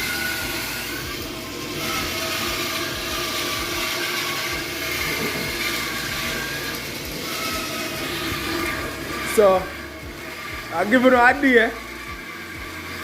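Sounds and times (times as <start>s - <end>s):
faint wavering whines: 0.0s - 13.0s
mechanical running noise: 0.0s - 13.0s.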